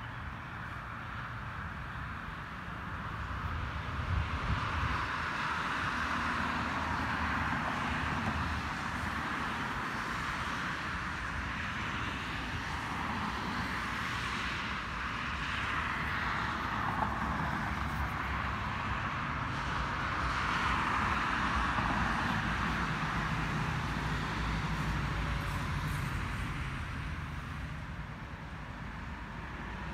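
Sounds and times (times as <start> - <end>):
cars passing: 0.0 - 29.9
road traffic: 0.0 - 29.9.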